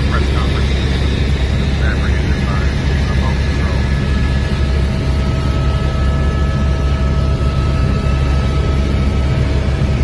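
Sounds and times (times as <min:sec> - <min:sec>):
helicopter rotor and engine rumble: 0:00.0 - 0:10.0.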